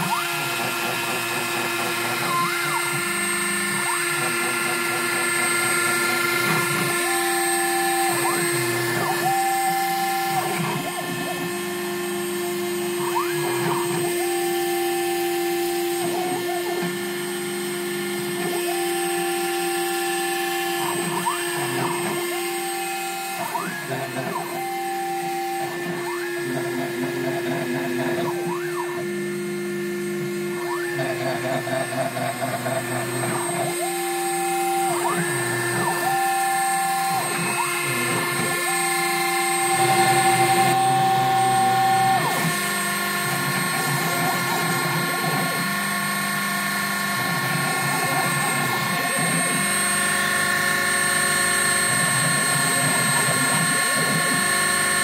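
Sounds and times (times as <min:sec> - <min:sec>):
rotary tool whine: 0:00.0 - 0:55.0
stepper motors humming: 0:00.0 - 0:55.0.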